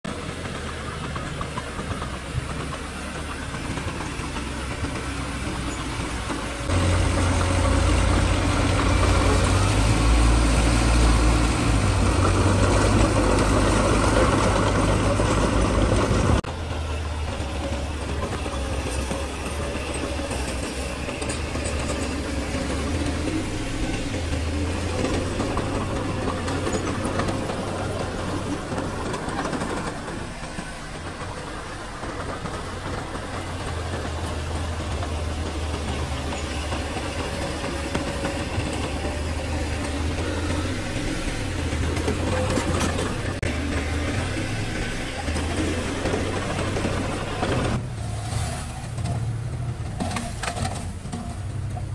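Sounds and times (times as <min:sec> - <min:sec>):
diesel engine rumbling: 0:00.0 - 0:51.9.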